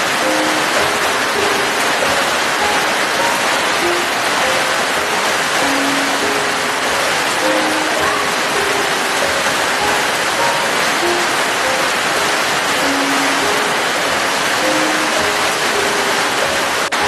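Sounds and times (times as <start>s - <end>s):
soft slow music notes: 0.0s - 17.0s
steady rain hiss: 0.0s - 17.0s.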